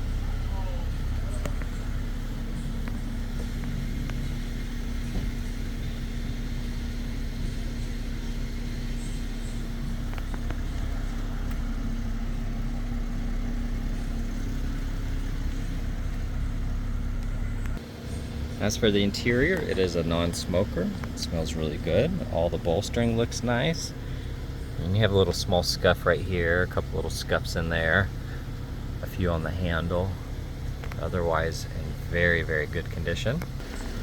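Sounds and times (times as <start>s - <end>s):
car engine rumbling: 0.0s - 34.0s.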